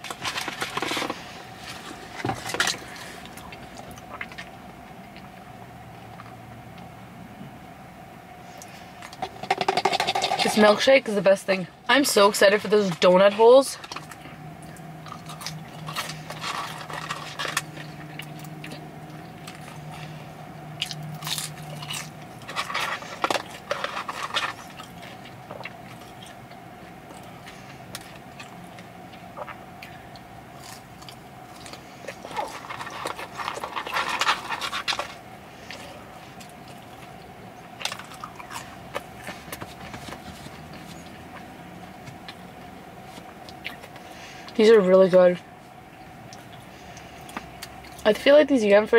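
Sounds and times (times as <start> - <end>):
chewing fries: 0.0 - 7.0, 12.6 - 44.7, 45.5 - 48.2
faint steady hum: 0.0 - 48.9.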